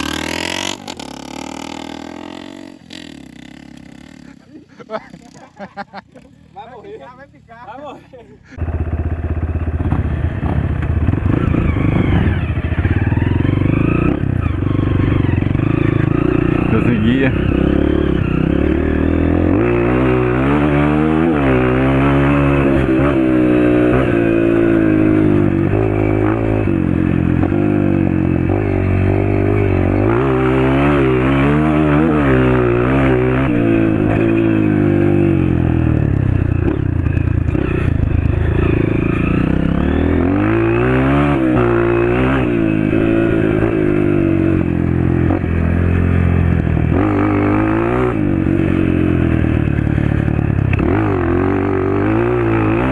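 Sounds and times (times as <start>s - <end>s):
dirt bike engine revving: 0.0s - 7.0s, 8.4s - 52.9s.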